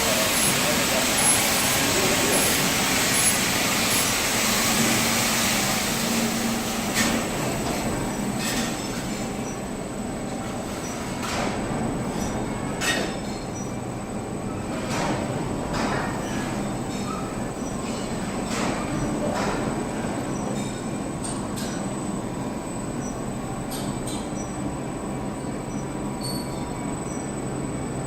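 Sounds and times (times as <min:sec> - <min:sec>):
belt conveyor rumbling and whining: 0:00.0 - 0:28.0.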